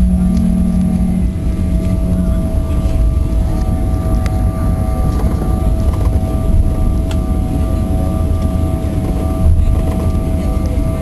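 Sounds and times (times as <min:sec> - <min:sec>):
engine and wheel rumble: 0:00.0 - 0:11.0
jet engine whine: 0:00.0 - 0:11.0.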